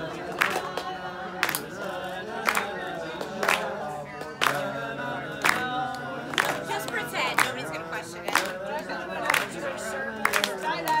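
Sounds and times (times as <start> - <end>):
group singing: 0.0 - 11.0
people clapping in time: 0.0 - 11.0.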